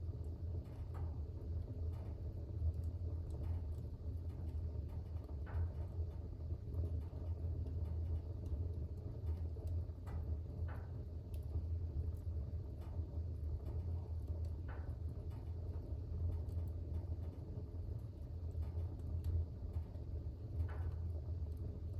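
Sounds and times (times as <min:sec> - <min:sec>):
fire crackling: 0:00.0 - 0:21.9
fire flames rumbling: 0:00.0 - 0:21.9.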